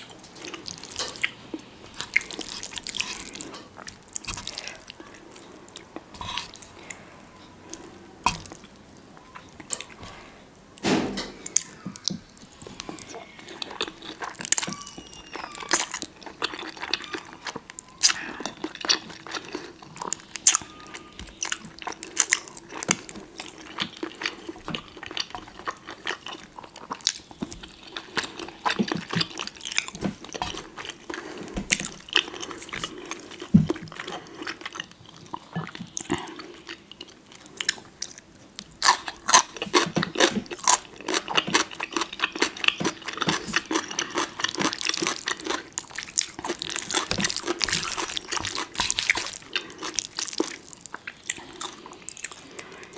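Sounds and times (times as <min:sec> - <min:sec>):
chewing and biting noodles: 0:02.0 - 0:06.8, 0:11.7 - 0:38.2, 0:38.8 - 0:52.9.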